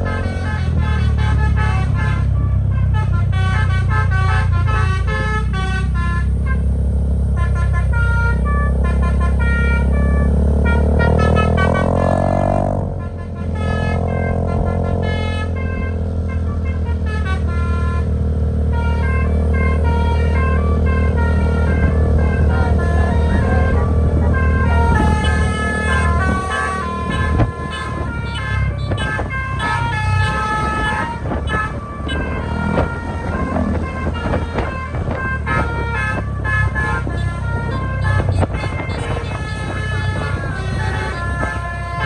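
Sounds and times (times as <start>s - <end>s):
bus engine running: 0.0s - 42.0s
bus horn playing melody: 0.0s - 42.0s.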